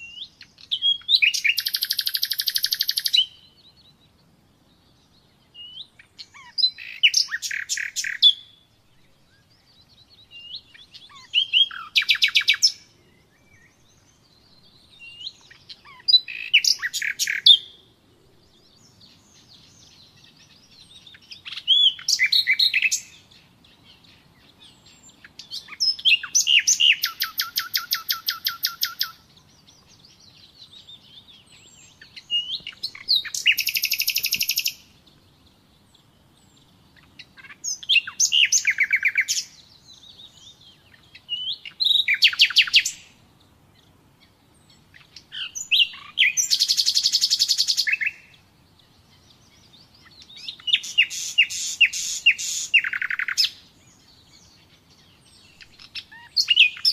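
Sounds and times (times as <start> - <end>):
nightingale singing: 0.0 - 56.9.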